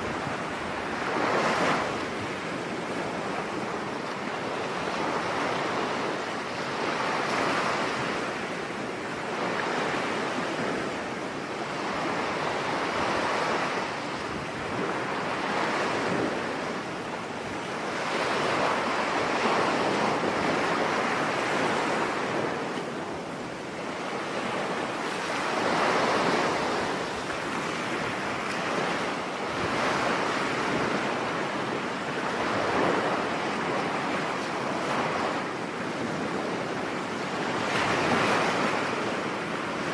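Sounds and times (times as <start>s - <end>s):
ocean surf washing onto shore: 0.0s - 39.9s.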